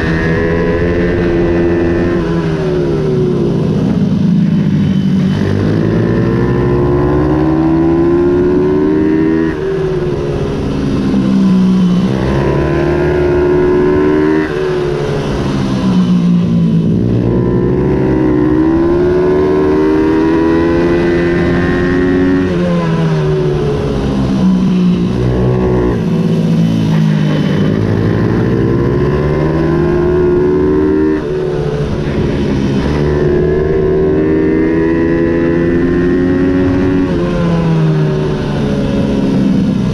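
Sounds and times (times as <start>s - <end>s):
minibike engine racing: 0.0s - 39.9s.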